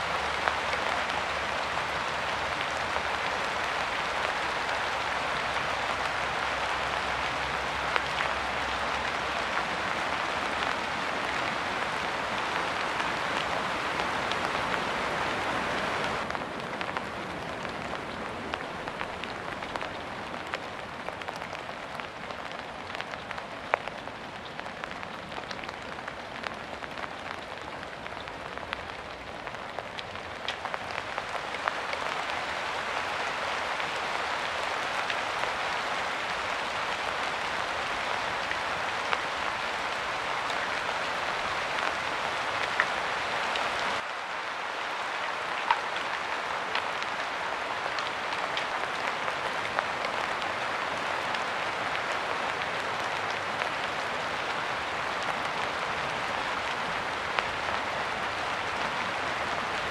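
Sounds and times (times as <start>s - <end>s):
separate raindrops: 0.0s - 59.9s
steady rain falling: 0.0s - 59.9s.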